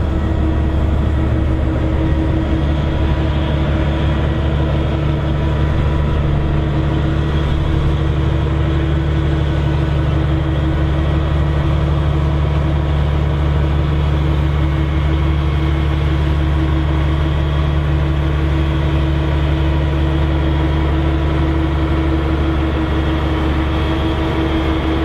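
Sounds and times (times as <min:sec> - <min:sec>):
combine harvester engine drone: 0:00.0 - 0:25.0.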